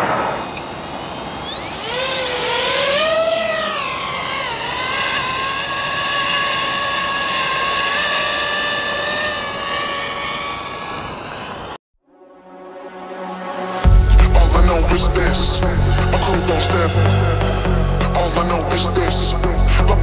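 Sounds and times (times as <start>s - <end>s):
drone propellers whining: 0.0s - 11.8s, 12.8s - 20.0s.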